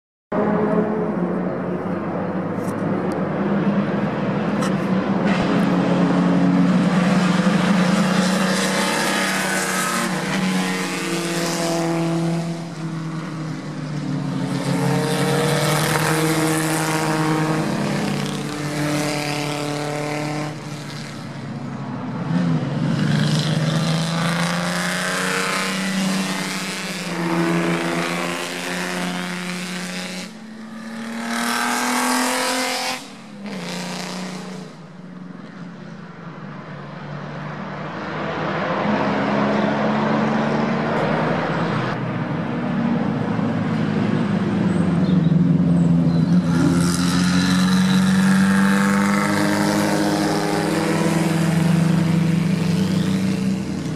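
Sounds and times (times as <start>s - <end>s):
racing cars passing by: 0.3s - 53.9s.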